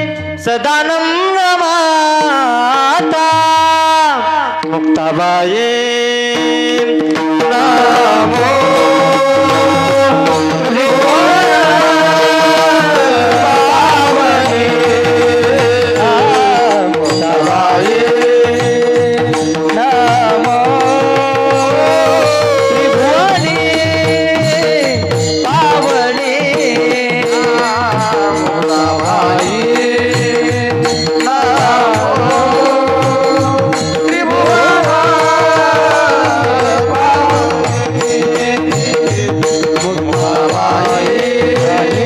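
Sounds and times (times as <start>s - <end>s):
man singing devotional song: 0.0s - 42.0s
hand drum beat: 6.3s - 42.0s.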